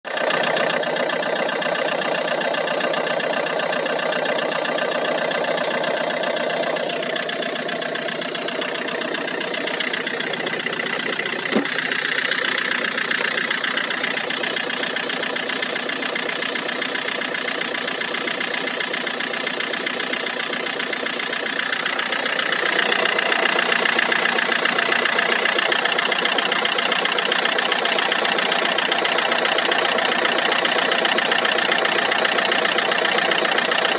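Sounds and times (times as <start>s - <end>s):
diesel engine knocking: 0.1s - 33.9s.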